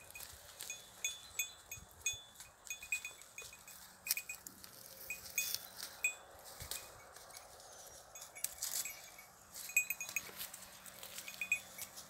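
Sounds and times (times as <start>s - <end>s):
dry brush crackling: 0.0s - 12.0s
small metal bells clinking: 0.0s - 12.0s.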